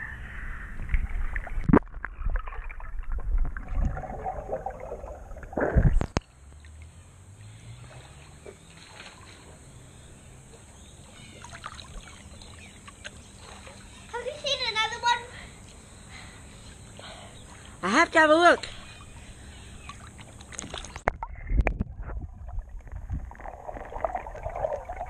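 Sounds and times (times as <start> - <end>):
water sloshing and splashing: 0.8 - 14.8, 16.6 - 25.0.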